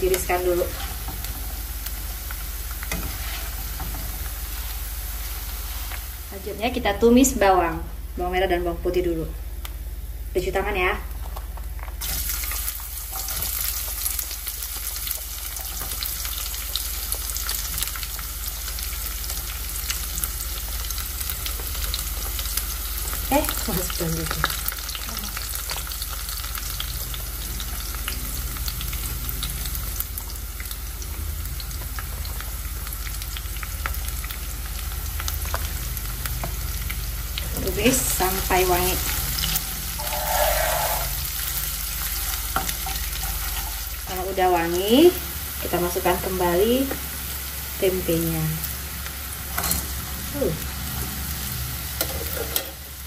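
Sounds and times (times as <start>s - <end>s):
shallots sizzling in hot oil: 0.0s - 8.3s, 10.6s - 53.0s.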